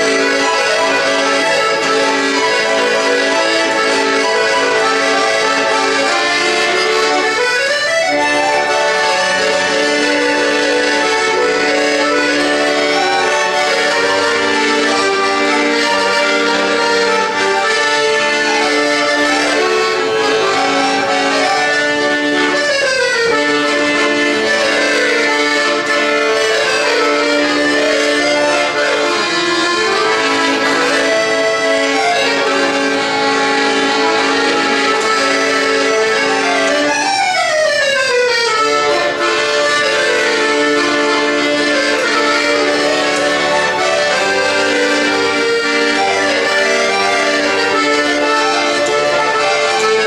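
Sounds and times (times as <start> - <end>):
accordion playing a melody: 0.0 - 50.0.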